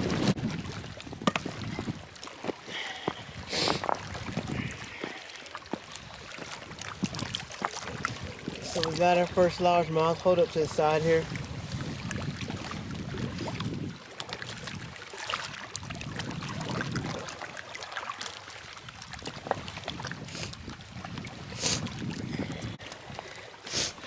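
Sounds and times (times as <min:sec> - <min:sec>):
wind on microphone: 0:00.0 - 0:02.2, 0:02.9 - 0:05.2, 0:06.0 - 0:17.6, 0:18.7 - 0:24.0
lake water lapping and splashing: 0:00.0 - 0:24.0.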